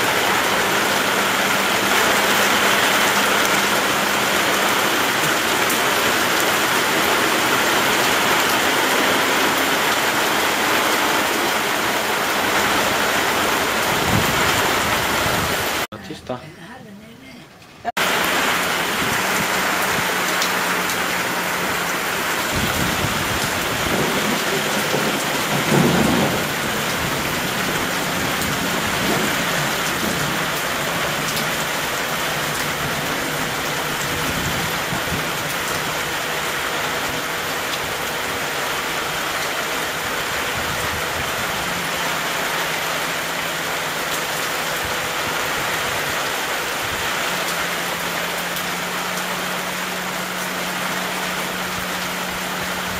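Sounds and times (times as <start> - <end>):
heavy rain pouring: 0.0 - 15.9, 17.9 - 52.9.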